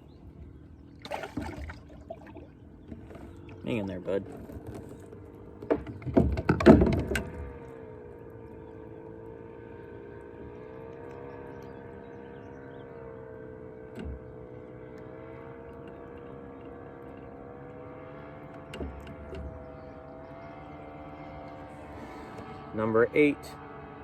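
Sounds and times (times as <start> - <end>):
distant engine drone: 0.0 - 24.0.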